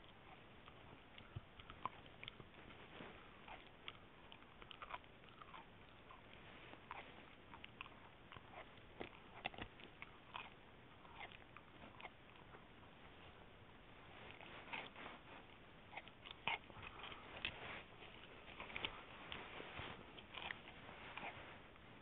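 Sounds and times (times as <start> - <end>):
dog chewing gristle: 0.0 - 22.0.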